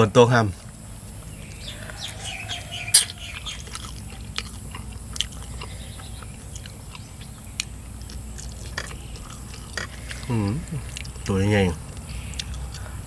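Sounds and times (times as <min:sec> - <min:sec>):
people chewing food: 0:00.5 - 0:13.0.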